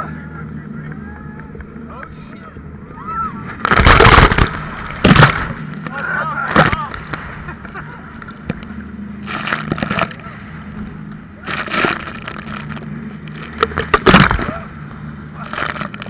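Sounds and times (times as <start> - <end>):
boat engine humming: 0.0 - 16.0
waves splashing over boat: 0.0 - 16.0.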